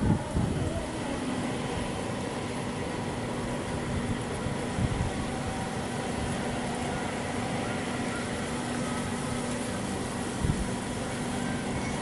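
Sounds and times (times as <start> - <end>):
broad rushing noise: 0.0 - 12.0
mechanical hum: 0.0 - 12.0.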